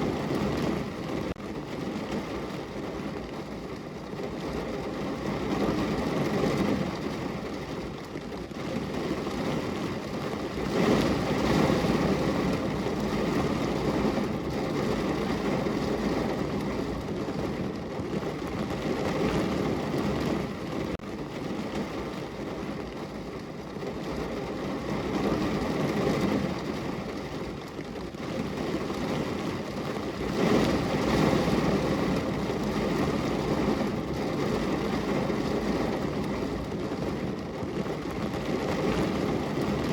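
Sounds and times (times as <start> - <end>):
rain on car from inside: 0.0 - 39.9.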